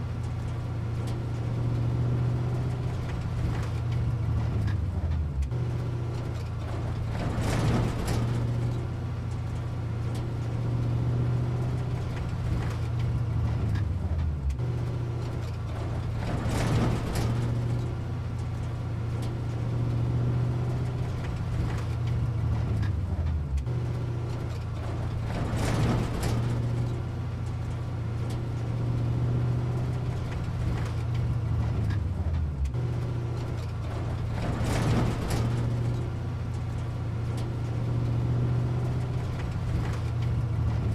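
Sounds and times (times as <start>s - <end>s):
heavy vehicle engine running: 0.0s - 40.9s.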